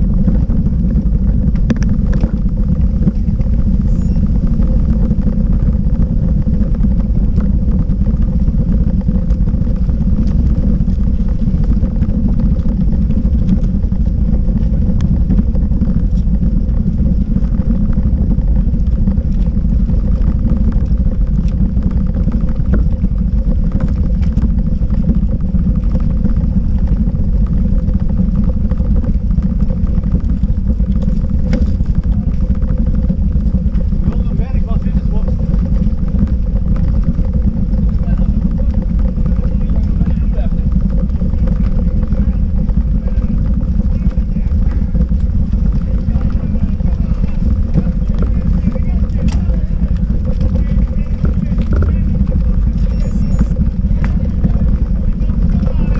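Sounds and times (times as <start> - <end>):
bicycle rattling over cobblestones: 0.0 - 55.9.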